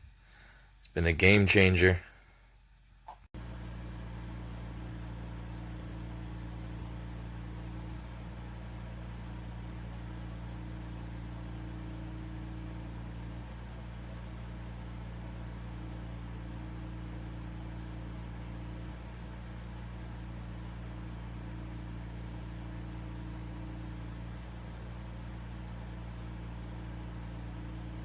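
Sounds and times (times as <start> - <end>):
humidifier humming and hissing: 0.0 - 28.0.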